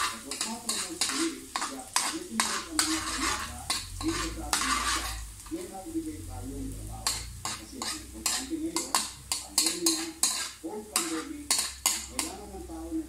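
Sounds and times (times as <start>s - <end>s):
metal spatula scraping a wok: 0.0s - 5.7s, 6.9s - 12.8s.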